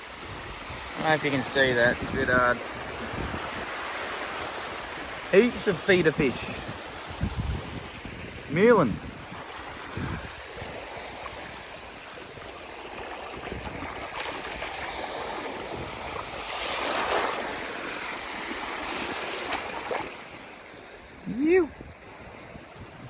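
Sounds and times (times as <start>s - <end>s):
seawater lapping and sloshing: 0.0s - 23.0s
wind: 0.0s - 23.0s.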